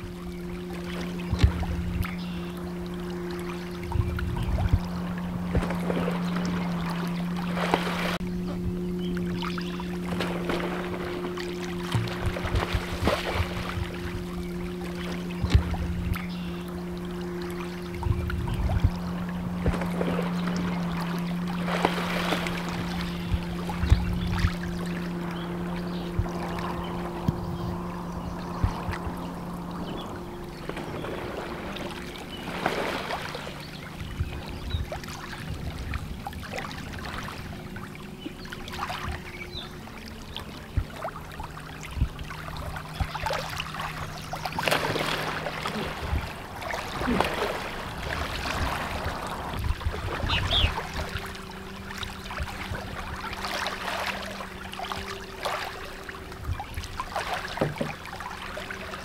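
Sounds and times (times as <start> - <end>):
low steady hum: 0.0 - 59.0
paddle strokes in water: 0.0 - 59.0.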